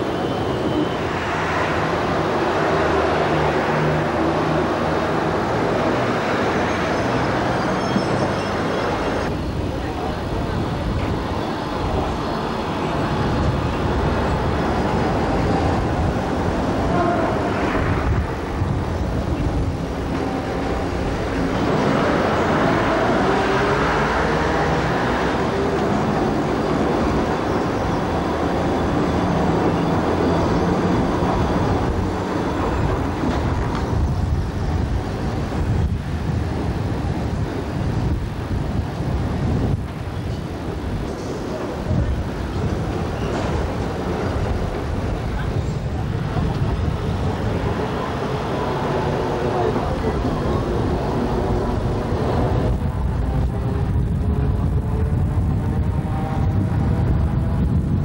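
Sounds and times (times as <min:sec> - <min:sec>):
tram wheels rumbling on rails: 0:00.0 - 0:58.0.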